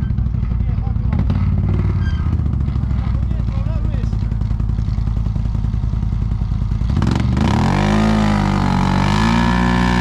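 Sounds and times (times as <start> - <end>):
quad bike engine revving: 0.0 - 10.0.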